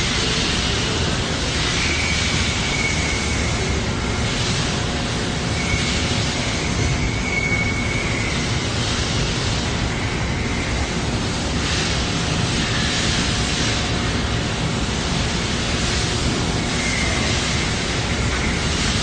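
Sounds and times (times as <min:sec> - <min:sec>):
lathe running with whine: 0:00.0 - 0:19.0.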